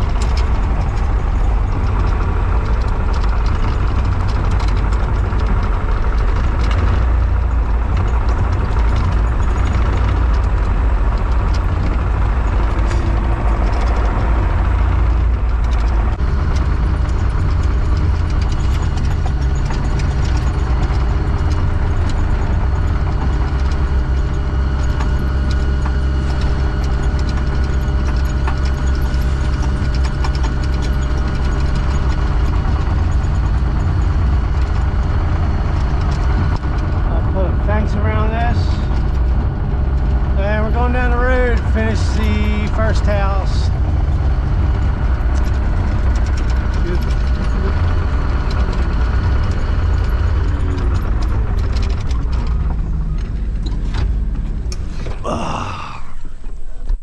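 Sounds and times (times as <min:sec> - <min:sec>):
heavy machine engine running: 0:00.0 - 0:57.0.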